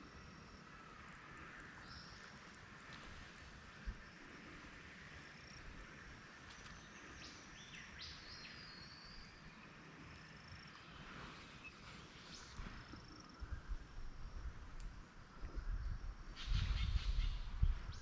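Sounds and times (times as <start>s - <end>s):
high insect-like hiss: 0.0s - 18.0s.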